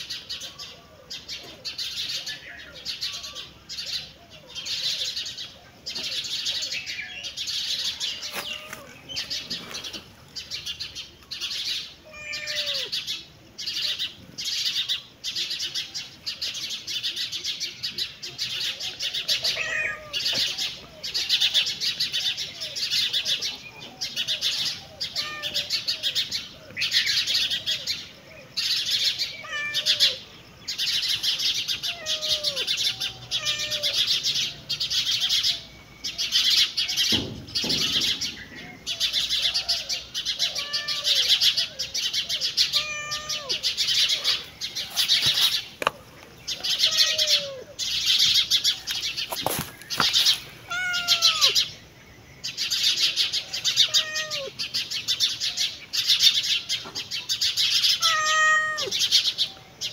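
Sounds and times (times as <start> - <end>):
birds chirping in rapid trills: 0.0 - 59.9.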